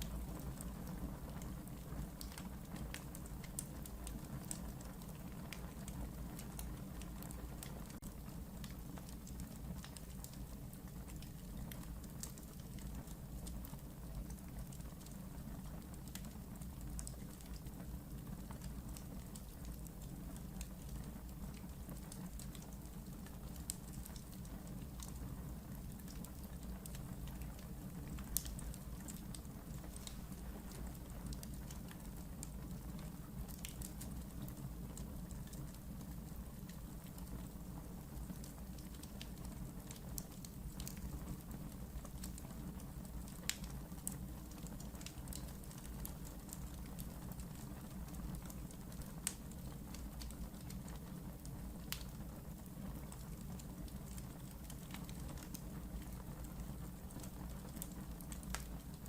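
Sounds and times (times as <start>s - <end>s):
fire popping: 0.0s - 59.0s
wood fire crackling: 0.0s - 59.0s.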